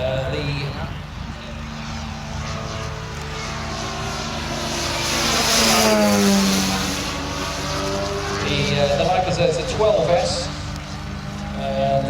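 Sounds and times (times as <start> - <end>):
model aircraft propeller drone: 0.0 - 12.0.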